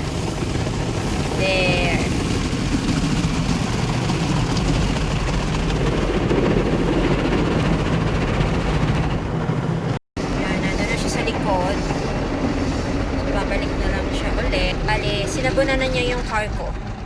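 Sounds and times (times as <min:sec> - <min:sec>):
car wash machine rumble: 0:00.0 - 0:17.0.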